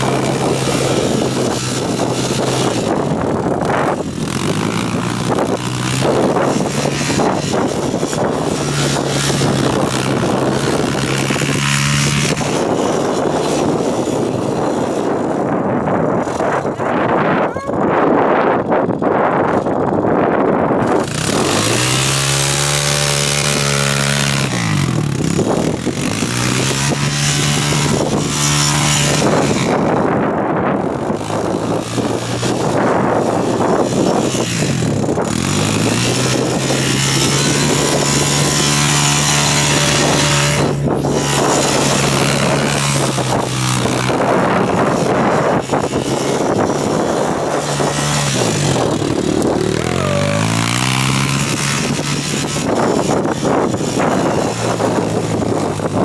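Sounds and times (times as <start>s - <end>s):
atv engine revving: 0.0s - 17.8s, 18.4s - 56.0s
wind noise on microphone: 0.0s - 56.0s.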